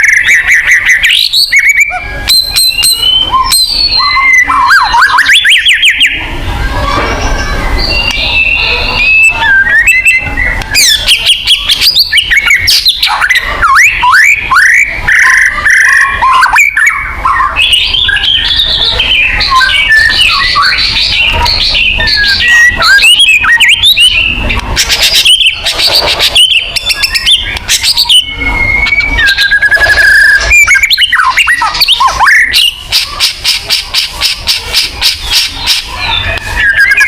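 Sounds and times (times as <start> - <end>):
songbird singing: 0.0 - 37.0.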